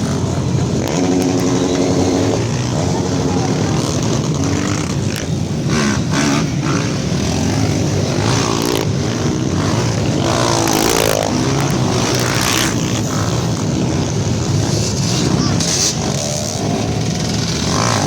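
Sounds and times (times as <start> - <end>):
motorcycle engine revving: 0.0 - 18.0
motorcycle engines running: 0.0 - 18.0.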